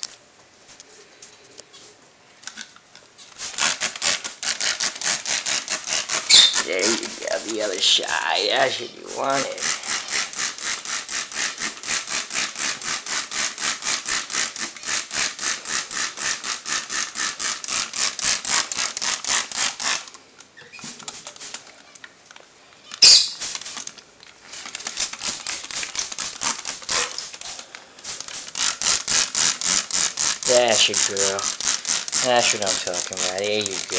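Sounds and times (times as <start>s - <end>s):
spray bottle squirts: 3.2s - 20.1s, 20.7s - 21.6s, 23.0s - 33.9s.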